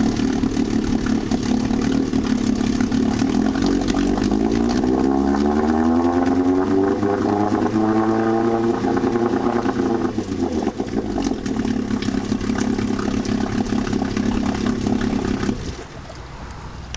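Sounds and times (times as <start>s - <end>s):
outboard motor running: 0.0s - 16.2s.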